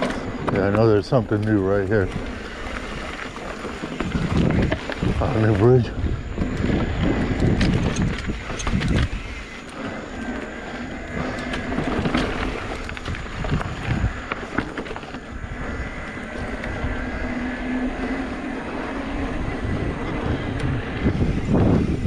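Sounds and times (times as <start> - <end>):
bike rattling over bumps: 0.0 - 22.0
bike tyres rolling on dirt: 0.0 - 22.0
wind noise on microphone: 0.0 - 22.0.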